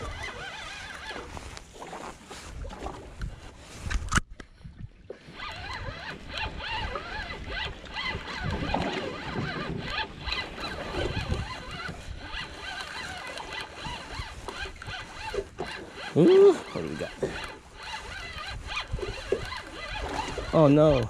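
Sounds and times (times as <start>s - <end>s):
fishing reel whirring: 0.0s - 2.0s, 5.2s - 21.0s.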